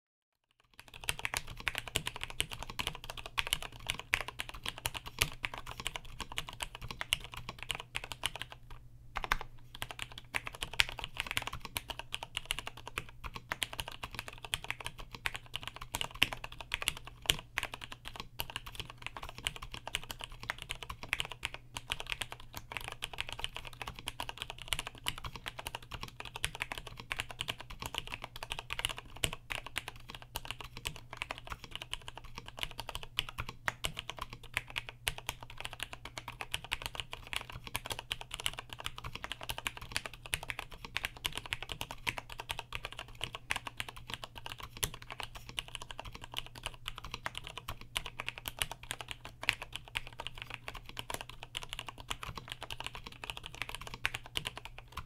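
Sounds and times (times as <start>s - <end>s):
rapid keyboard typing: 0.5s - 55.0s.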